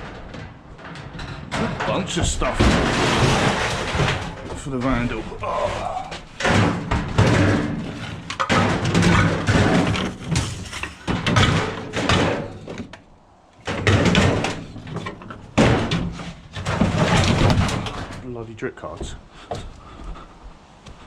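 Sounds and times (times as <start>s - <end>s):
scrap metal bangs and clattering: 0.0s - 12.9s, 13.6s - 19.2s.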